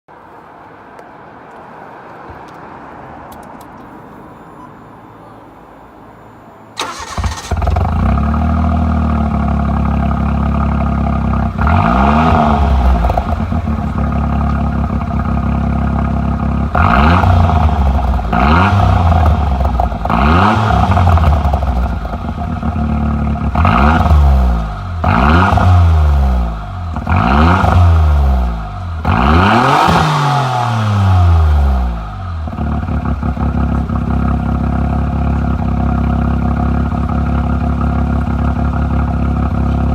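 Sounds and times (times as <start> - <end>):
car engine idling and revving: 3.3 - 39.9.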